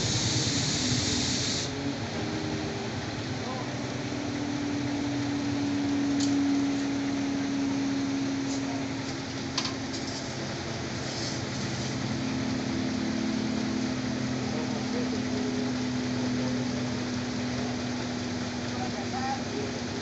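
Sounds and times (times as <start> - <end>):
engine idling with low hum: 0.0 - 20.0.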